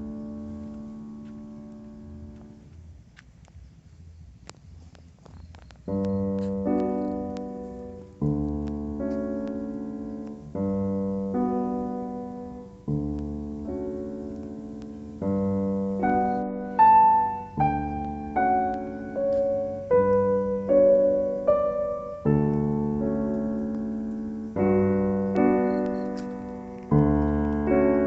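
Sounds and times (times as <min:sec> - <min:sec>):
higher piano melody: 0:00.0 - 0:02.7, 0:05.8 - 0:28.0
slow piano chords: 0:00.0 - 0:02.9, 0:05.8 - 0:28.0.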